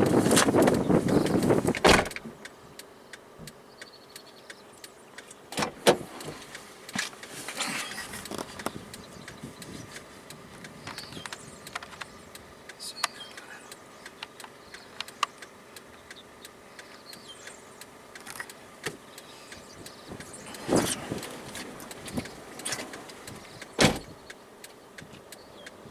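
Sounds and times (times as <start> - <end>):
faint steady hiss: 0.0 - 25.9
rustle: 0.0 - 25.9.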